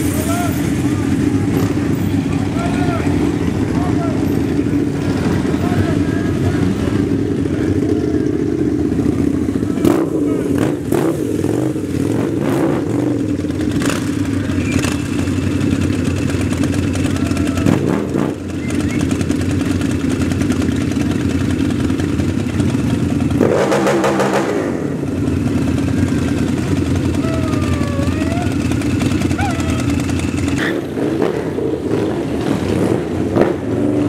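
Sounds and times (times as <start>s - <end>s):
motorcycle engine revving: 0.0s - 34.0s
motorcycles idling with deep rumble: 0.0s - 34.0s.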